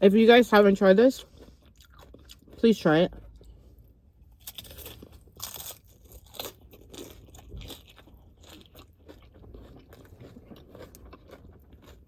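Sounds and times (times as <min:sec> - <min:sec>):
person chewing crunchy chips: 0:01.1 - 0:12.0.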